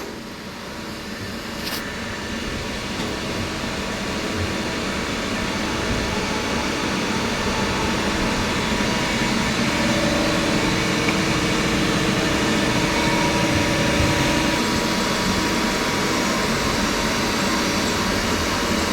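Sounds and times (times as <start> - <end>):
machine hum and hiss: 0.0 - 18.9.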